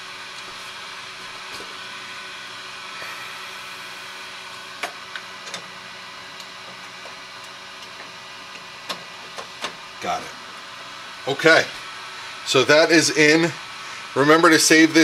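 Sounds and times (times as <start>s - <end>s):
steady mechanical whir: 0.0s - 15.0s.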